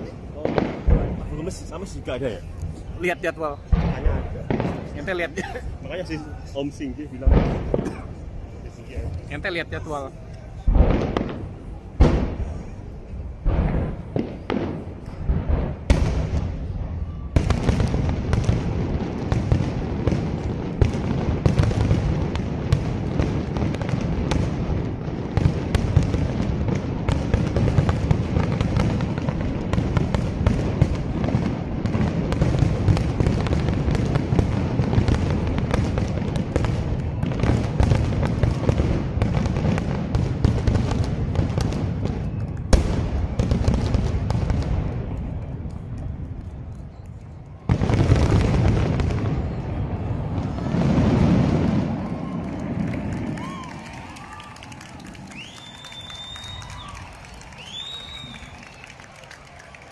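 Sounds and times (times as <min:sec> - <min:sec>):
fireworks booming and crackling: 0:00.0 - 0:59.9.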